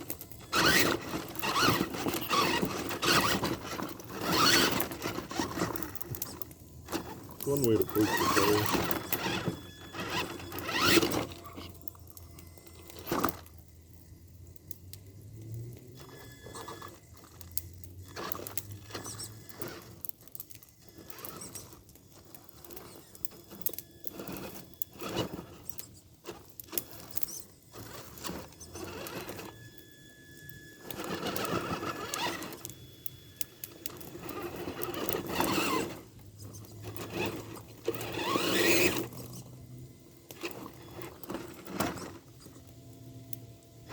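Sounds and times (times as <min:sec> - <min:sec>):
tyres scraping over ground: 0:00.0 - 0:13.6, 0:15.5 - 0:29.8, 0:30.8 - 0:32.8, 0:33.4 - 0:43.9
toy truck motor whining: 0:00.0 - 0:43.9.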